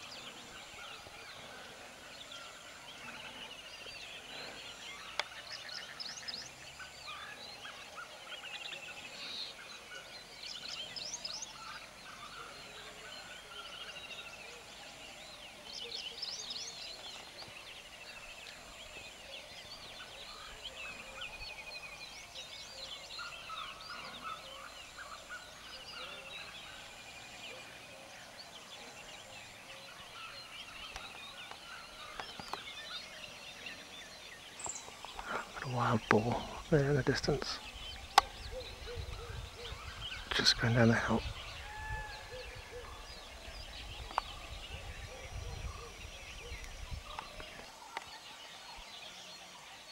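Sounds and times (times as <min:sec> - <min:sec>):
birds chirping and trilling: 0:00.0 - 0:49.9.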